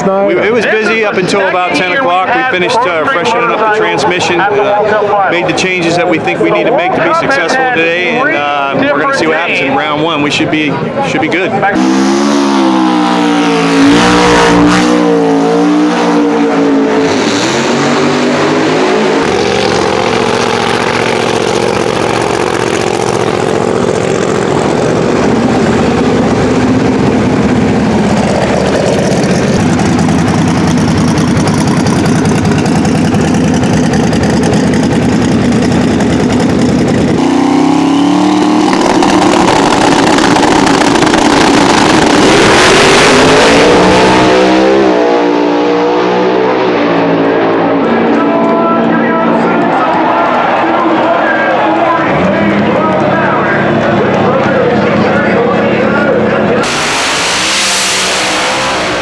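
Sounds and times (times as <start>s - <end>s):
drag car engine revving: 11.6s - 59.0s.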